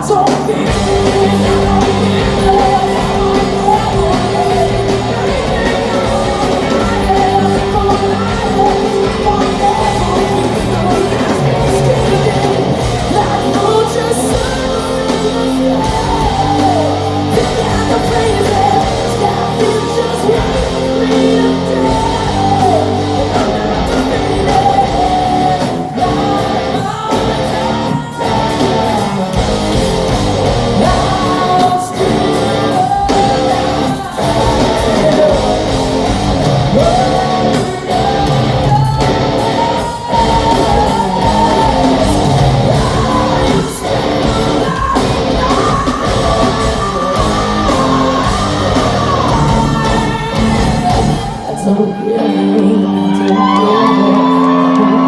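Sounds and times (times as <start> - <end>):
distorted guitars: 0.0 - 55.0
person singing lead vocals: 0.0 - 55.0
rock drums: 0.0 - 55.0.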